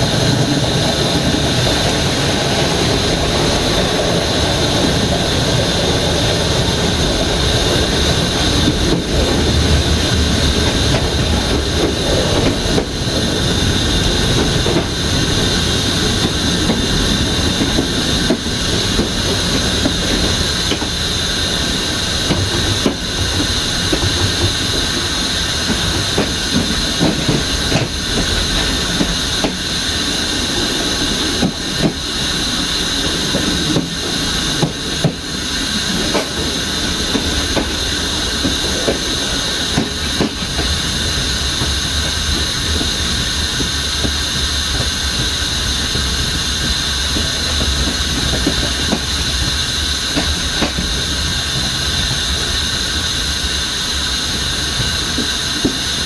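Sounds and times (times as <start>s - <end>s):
train wheels rumbling on rails: 0.0s - 56.0s
wheels clicking over rail joints: 0.1s - 52.6s.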